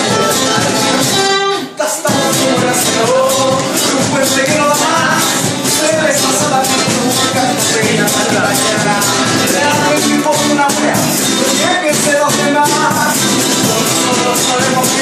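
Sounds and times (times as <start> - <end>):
band playing instrumental music: 0.0 - 15.0
rattling percussion: 2.0 - 15.0.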